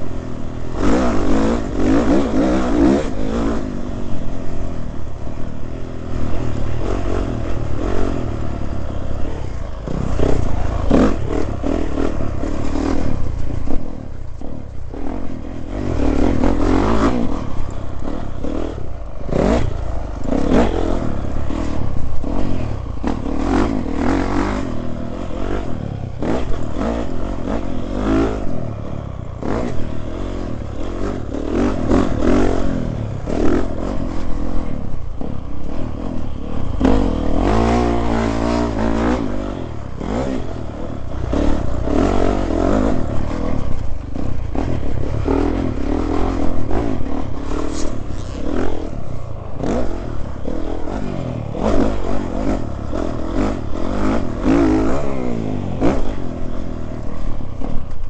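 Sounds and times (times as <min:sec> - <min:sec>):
bike rattling over bumps: 0:00.0 - 0:58.0
dirt bike engine revving: 0:00.0 - 0:58.0.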